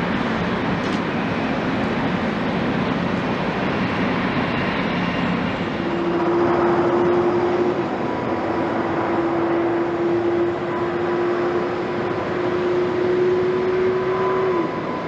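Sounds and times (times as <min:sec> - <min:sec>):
jet engines higher hum: 0:00.0 - 0:15.0
jet engines low hum: 0:00.0 - 0:15.0.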